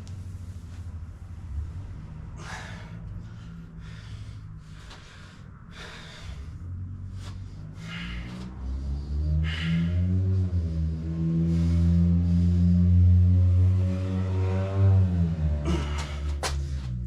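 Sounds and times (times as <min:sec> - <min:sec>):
steady low hum: 0:00.0 - 0:17.0
man breathing hard: 0:01.4 - 0:13.4, 0:15.3 - 0:17.0.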